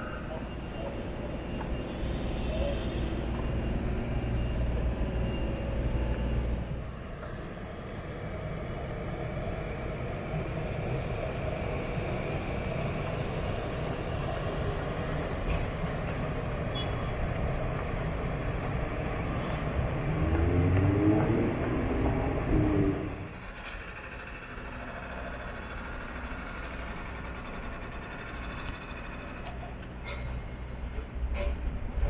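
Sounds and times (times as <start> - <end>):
low rumble of traffic: 0.0 - 32.0.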